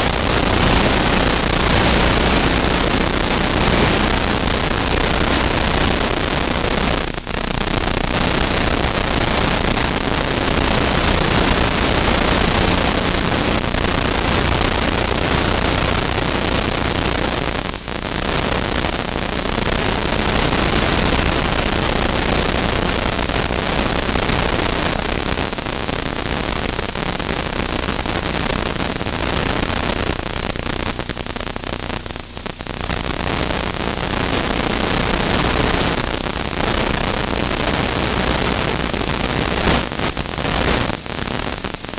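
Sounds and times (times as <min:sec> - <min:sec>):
static-like hiss: 0:00.0 - 0:41.9.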